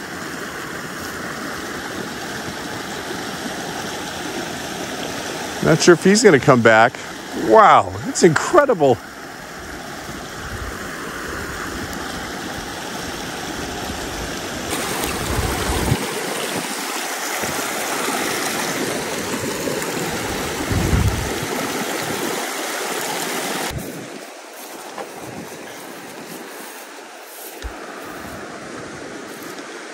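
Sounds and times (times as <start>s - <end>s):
creek babbling over rocks: 0.0s - 29.9s.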